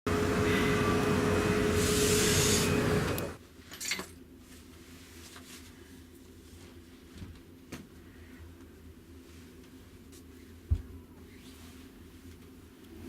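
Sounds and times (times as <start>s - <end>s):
machinery and ventilation hum: 0.1s - 13.0s.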